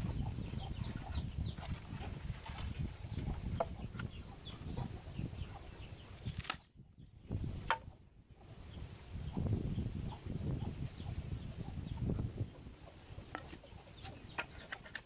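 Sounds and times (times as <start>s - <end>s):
chickens clucking: 0.0s - 6.3s, 7.5s - 15.0s.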